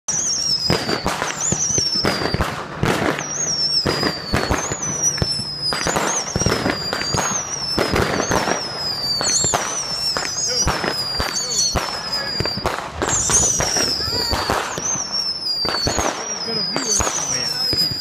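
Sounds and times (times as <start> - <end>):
descending firework whistle: 0.0 - 18.0
fireworks bangs and crackles: 0.0 - 18.0.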